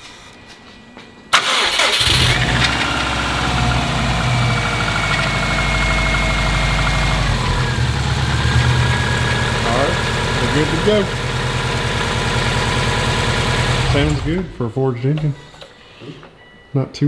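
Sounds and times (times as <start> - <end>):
car engine starting and idling: 1.3 - 16.4.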